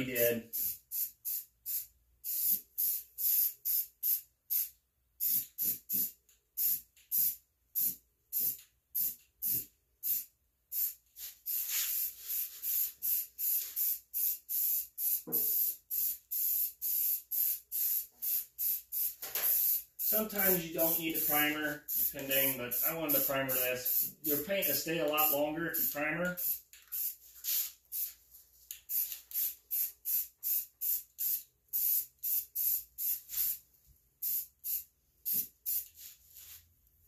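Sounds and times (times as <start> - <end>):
aerosol can spraying: 0.5 - 33.6, 34.2 - 36.5.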